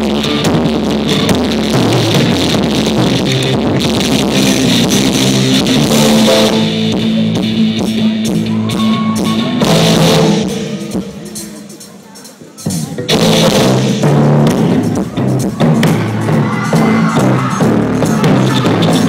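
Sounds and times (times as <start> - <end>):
live pop-rock band: 0.0 - 19.0.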